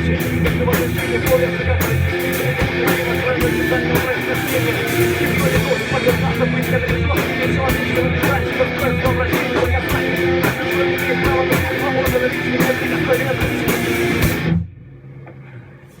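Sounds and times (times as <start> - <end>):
drum and cymbal hits: 0.0 - 14.5
metal band playing: 0.0 - 14.6.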